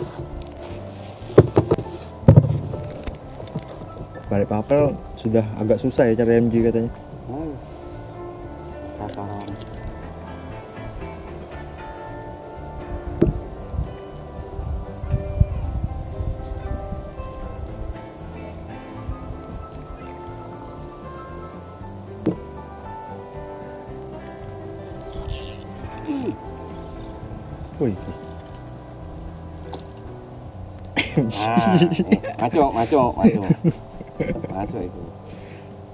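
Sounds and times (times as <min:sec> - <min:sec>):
high-pitched insect chorus: 0:00.0 - 0:35.9.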